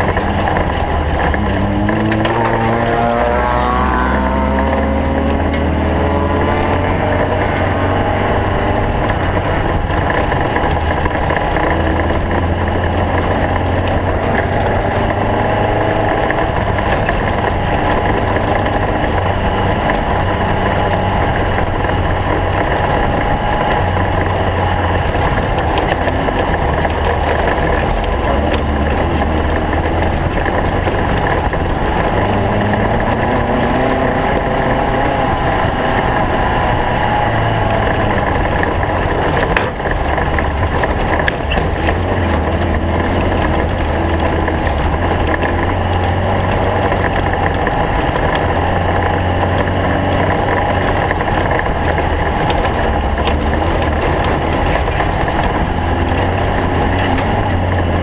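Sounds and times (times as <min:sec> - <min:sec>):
race car engine running hard: 0:00.0 - 0:58.0
road and wind noise: 0:00.0 - 0:58.0.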